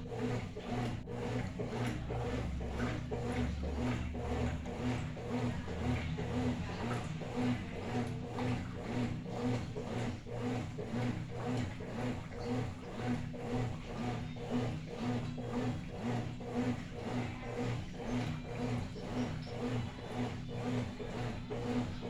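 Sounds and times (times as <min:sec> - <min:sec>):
washing machine agitating: 0:00.0 - 0:22.0.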